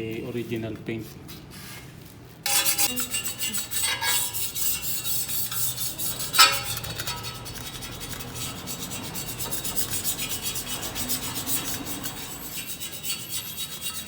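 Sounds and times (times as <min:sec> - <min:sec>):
scraping paint off bicycle frame: 0:02.5 - 0:14.0.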